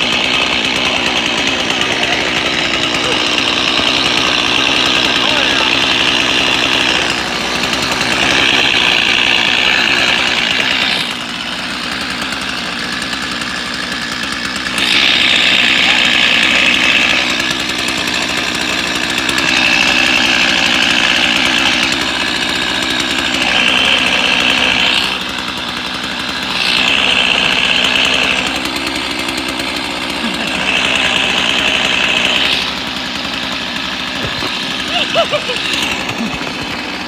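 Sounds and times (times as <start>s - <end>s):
chainsaw engine revving: 0.0s - 37.0s.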